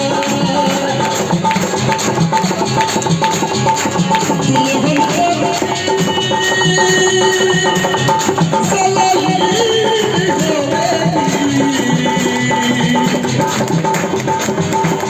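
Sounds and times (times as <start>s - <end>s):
hand drum rhythm: 0.0s - 15.0s.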